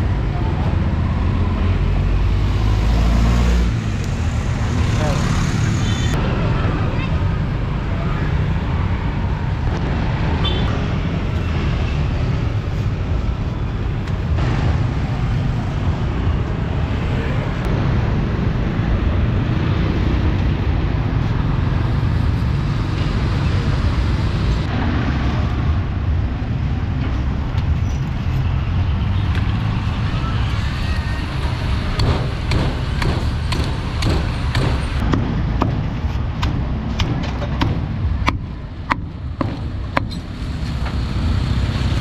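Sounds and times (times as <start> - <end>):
street traffic rumble: 0.0 - 42.0.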